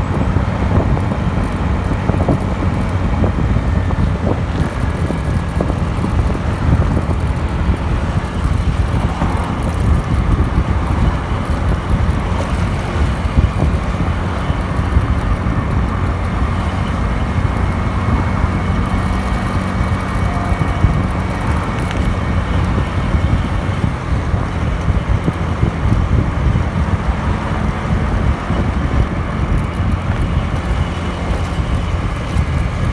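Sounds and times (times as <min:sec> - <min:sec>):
scooter engine running: 0:00.0 - 0:32.9
wind noise on microphone: 0:00.0 - 0:32.9.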